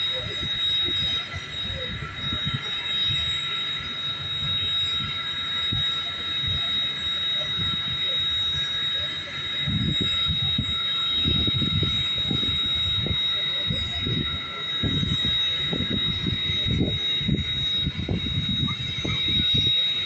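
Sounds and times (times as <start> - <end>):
steady high-pitched tone: 0.0 - 20.0.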